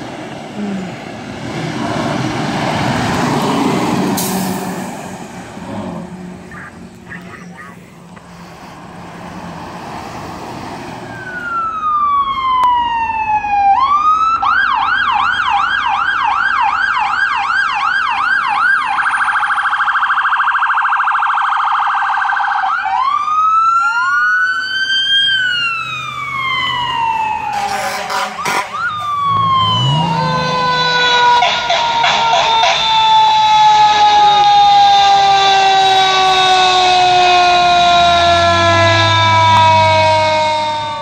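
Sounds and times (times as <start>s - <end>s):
fire truck siren wailing and yelping: 5.4s - 41.0s.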